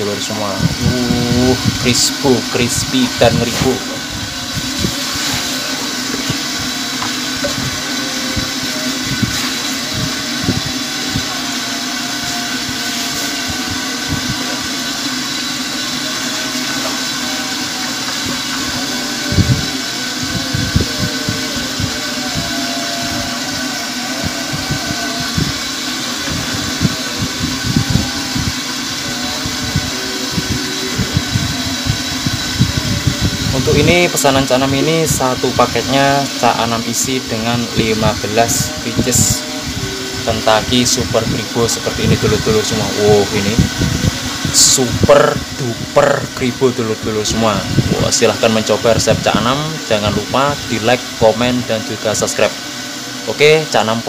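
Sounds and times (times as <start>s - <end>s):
chicken sizzling in hot oil: 0.7s - 51.2s, 51.8s - 53.3s.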